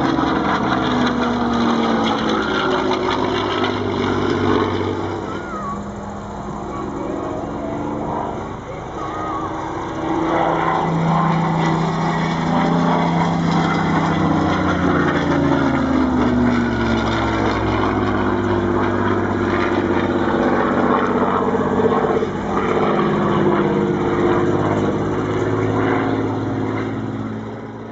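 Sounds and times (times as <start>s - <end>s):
propeller plane engine overhead: 0.0s - 27.9s.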